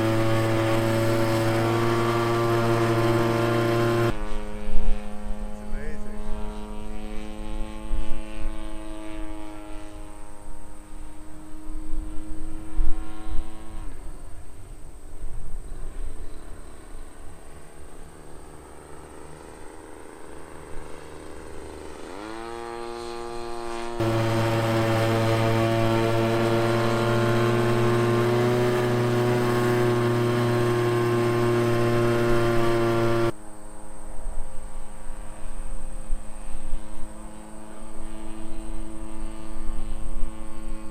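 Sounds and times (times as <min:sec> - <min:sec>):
model airplane engine drone: 0:00.0 - 0:40.9.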